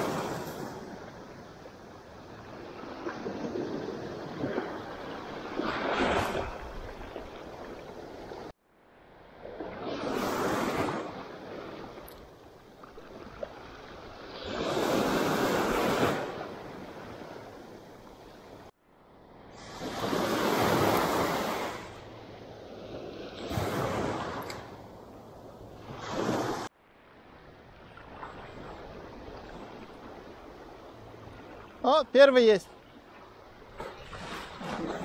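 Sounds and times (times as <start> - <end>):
small waves washing on sand: 0.0 - 18.8, 19.5 - 35.0.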